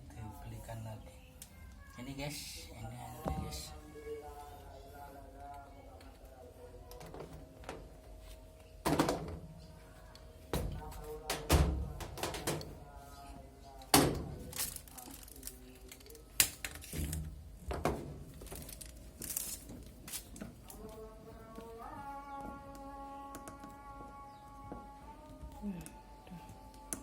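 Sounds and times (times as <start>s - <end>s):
voices: 0.0s - 17.4s, 18.6s - 27.0s
faint music: 0.0s - 27.0s.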